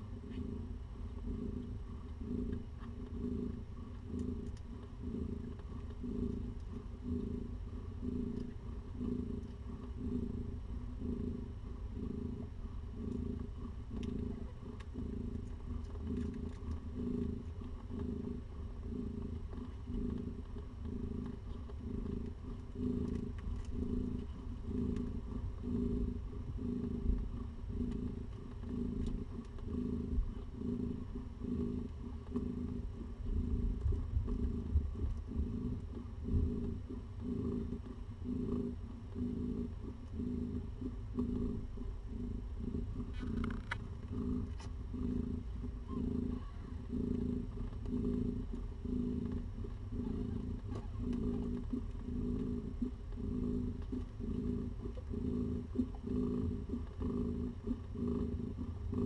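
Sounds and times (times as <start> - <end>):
cat purring: 0.0 - 59.0
low steady hum: 0.0 - 59.0.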